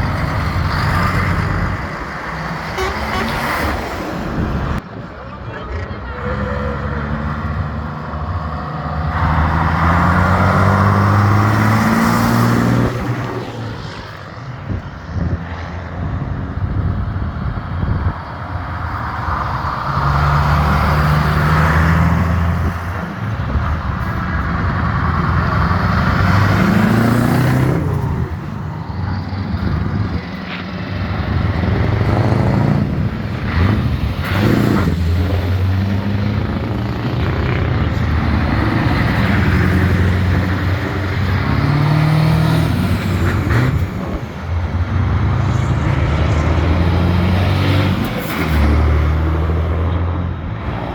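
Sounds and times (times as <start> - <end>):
trucks driving past: 0.0 - 50.9.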